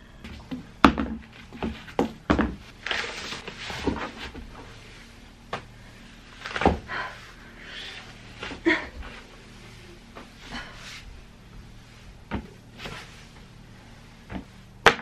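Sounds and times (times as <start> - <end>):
fabric rustling: 1.3 - 14.8.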